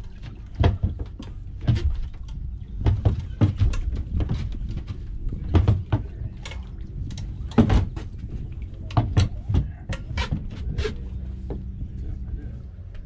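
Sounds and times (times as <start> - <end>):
dinghy hull knocking and thumping: 0.0 - 12.3.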